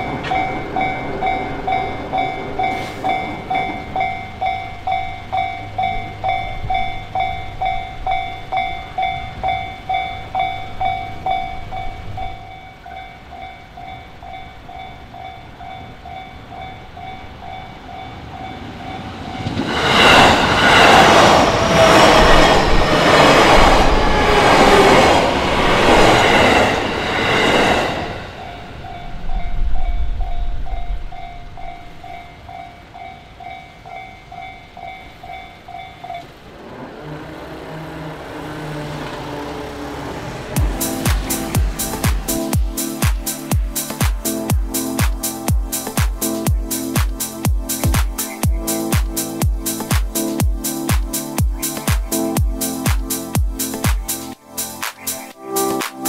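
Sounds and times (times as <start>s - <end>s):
train wheels clattering: 0.0s - 36.8s, 38.4s - 54.2s
level-crossing warning bell: 0.0s - 54.7s.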